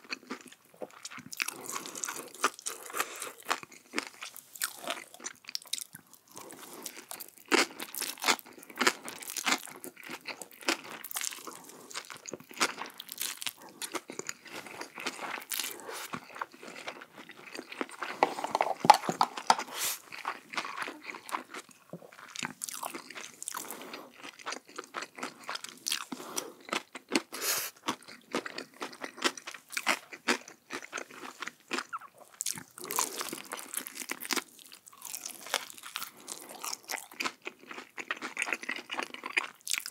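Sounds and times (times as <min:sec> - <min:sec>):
crunching bites of fried chicken: 0:00.0 - 0:18.1, 0:18.8 - 0:39.9.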